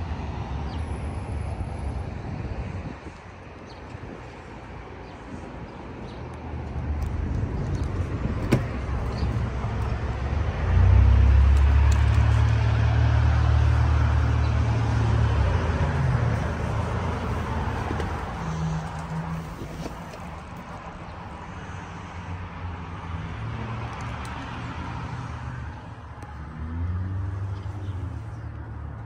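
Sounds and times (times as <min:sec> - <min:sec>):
motor vehicle rumble: 0:00.0 - 0:29.0
traffic noise: 0:00.0 - 0:29.0.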